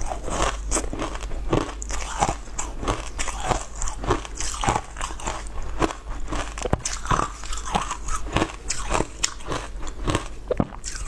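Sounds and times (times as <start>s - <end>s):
chewing crunchy ice: 0.0s - 11.0s.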